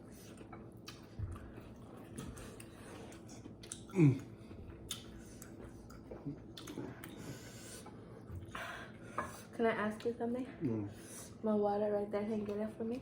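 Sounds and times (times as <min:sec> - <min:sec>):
chewing and eating: 0:00.0 - 0:11.1.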